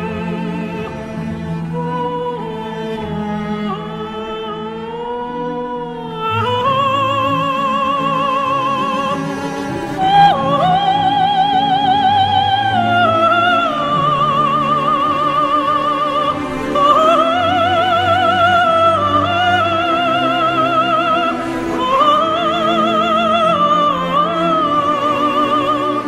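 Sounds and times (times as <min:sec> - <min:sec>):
operatic voice singing: 0:00.0 - 0:26.0.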